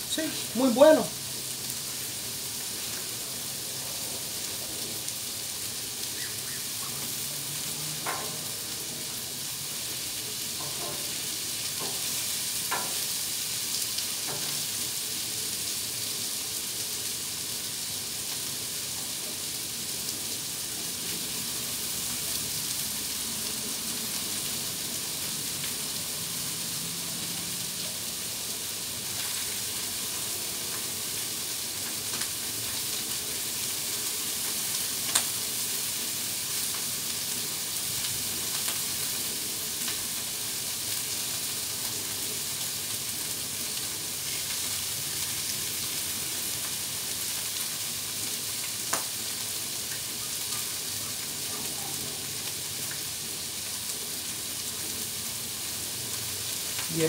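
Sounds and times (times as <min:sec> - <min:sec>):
meat sizzling on griddle: 0:00.0 - 0:57.0.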